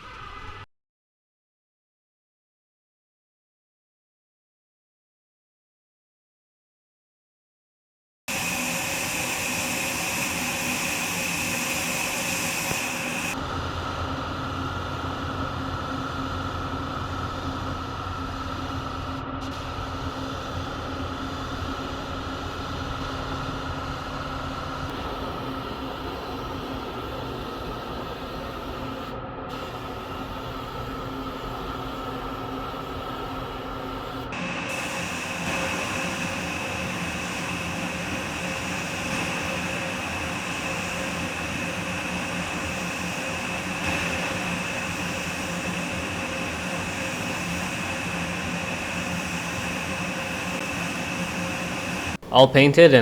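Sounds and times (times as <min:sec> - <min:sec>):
steady whine: 0:08.3 - 0:53.0.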